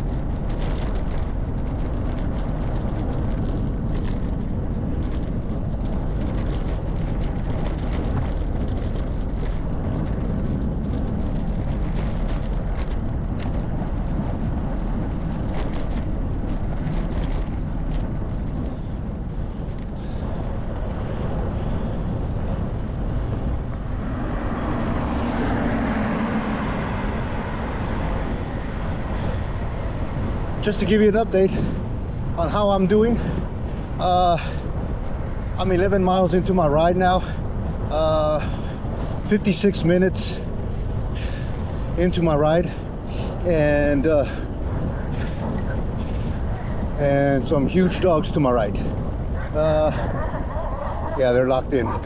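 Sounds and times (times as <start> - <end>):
light clicks and rattles: 0.0 - 21.9, 26.9 - 50.1
bicycle tyre and road noise: 0.0 - 52.0
wind rumble on microphone: 0.0 - 52.0
car passing: 3.4 - 52.0.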